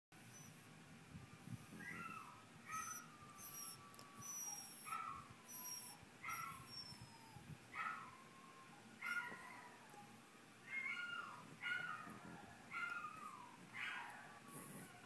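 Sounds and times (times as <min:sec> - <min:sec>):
dog howling and whining: 0:01.5 - 0:15.0.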